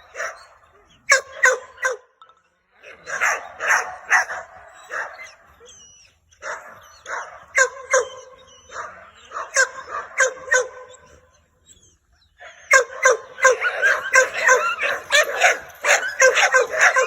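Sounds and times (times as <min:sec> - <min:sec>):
dogs barking: 0:00.0 - 0:02.2, 0:02.8 - 0:17.0.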